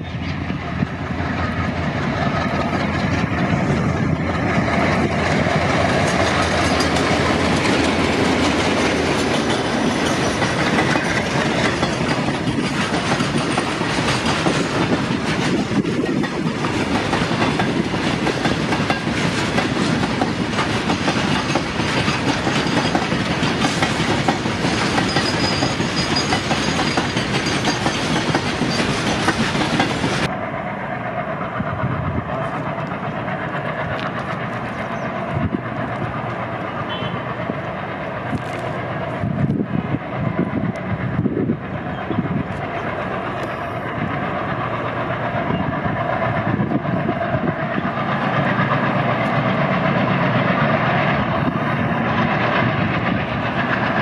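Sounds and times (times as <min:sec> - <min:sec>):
diesel locomotives passing: 0:00.0 - 0:54.0
train wheels clattering over rail joints: 0:00.1 - 0:30.3, 0:32.2 - 0:54.0.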